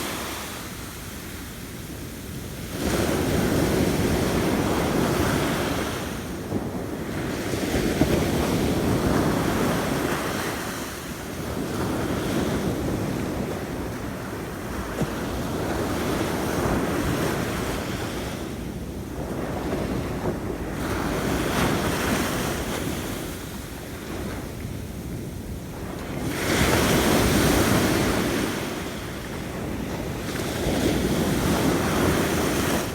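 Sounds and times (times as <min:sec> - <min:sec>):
waves breaking on shore: 0:00.0 - 0:32.9.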